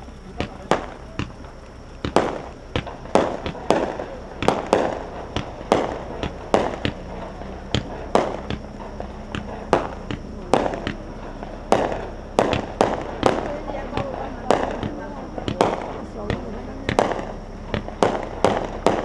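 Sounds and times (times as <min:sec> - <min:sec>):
firework shells banging: 0:00.0 - 0:19.0.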